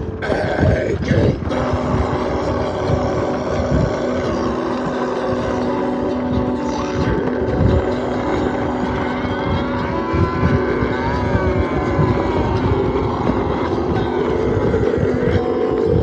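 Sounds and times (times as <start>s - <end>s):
wind buffeting microphone: 0.0s - 16.0s
motorcycle engine running: 1.4s - 16.0s.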